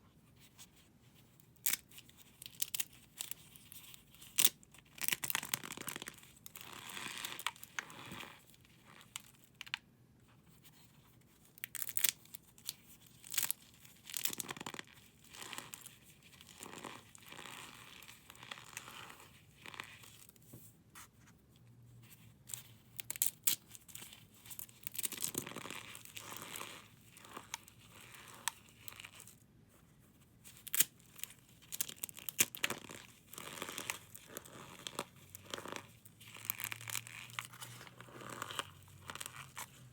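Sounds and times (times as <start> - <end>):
brittle material crunching by hand: 1.6 - 3.4, 4.2 - 9.8, 11.6 - 20.2, 22.5 - 29.3, 30.5 - 39.7.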